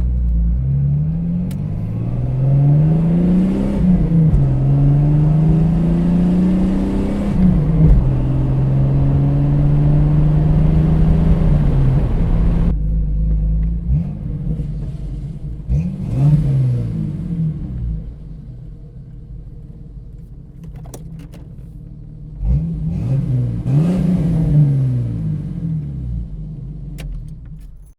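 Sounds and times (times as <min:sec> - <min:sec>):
car exhaust revving and idling: 0:00.0 - 0:27.9.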